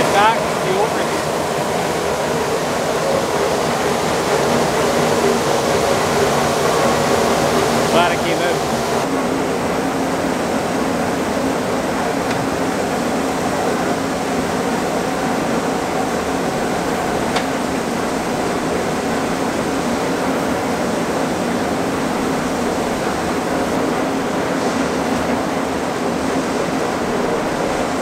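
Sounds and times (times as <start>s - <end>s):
farm machinery drone: 0.0s - 28.0s.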